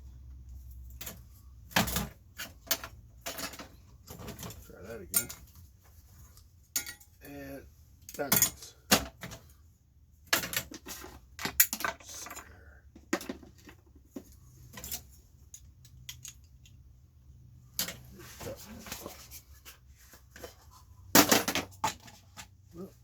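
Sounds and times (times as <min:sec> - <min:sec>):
small parts clicking and clattering: 0:00.5 - 0:07.4, 0:08.0 - 0:09.6, 0:10.2 - 0:22.9.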